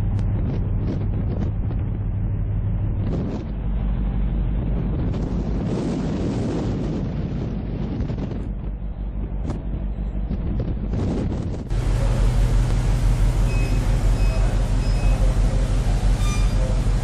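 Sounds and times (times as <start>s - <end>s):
steady low rumble: 0.0s - 17.0s
wind buffeting microphone: 0.0s - 17.0s.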